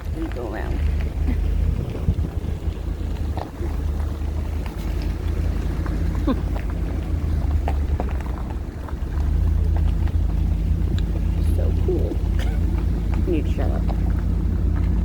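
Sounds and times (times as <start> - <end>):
vehicle driving slowly: 0.0 - 15.0
wind buffeting microphone: 0.0 - 15.0.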